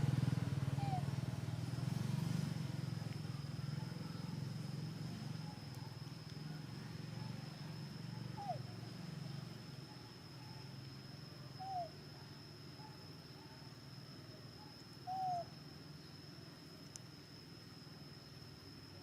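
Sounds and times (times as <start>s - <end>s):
high insect-like whine: 0.0s - 19.0s.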